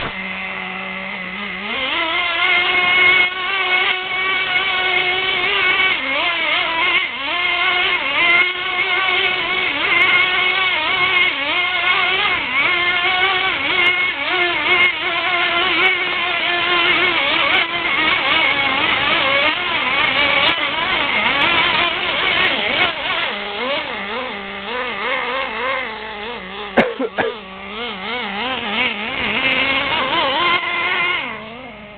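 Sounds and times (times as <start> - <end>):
small glow engine revving: 0.0 - 31.9
wheels spinning in place: 0.0 - 31.9.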